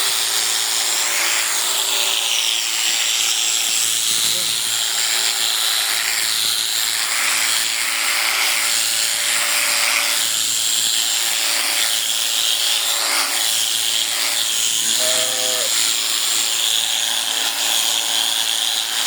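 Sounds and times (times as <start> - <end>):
electric sheep shears buzzing: 0.0 - 19.0.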